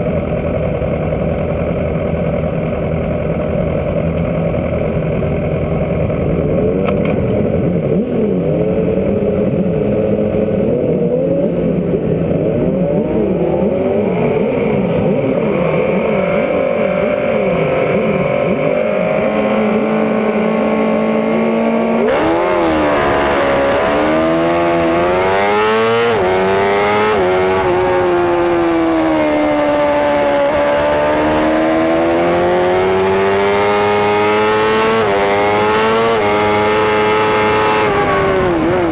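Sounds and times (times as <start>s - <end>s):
motorbike accelerating through gears: 0.0s - 38.9s
superbike engines revving: 0.0s - 38.9s
wind noise: 0.0s - 38.9s.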